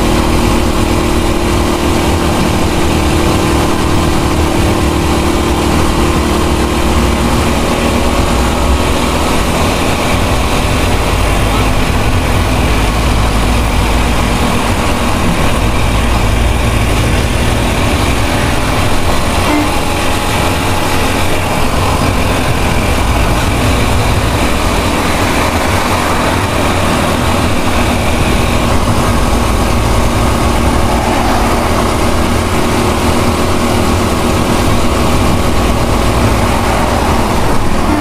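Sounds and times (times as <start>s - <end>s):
vehicle rumble and road noise: 0.0s - 38.0s.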